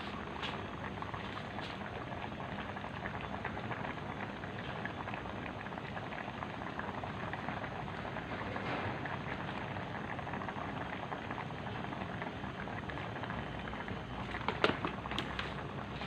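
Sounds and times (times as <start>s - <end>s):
broth bubbling at a boil: 0.0s - 16.0s.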